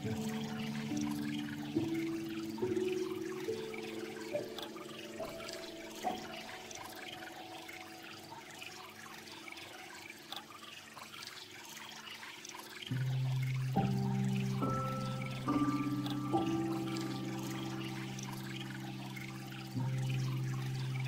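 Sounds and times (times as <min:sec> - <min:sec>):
soft sustained music notes: 0:00.0 - 0:21.0.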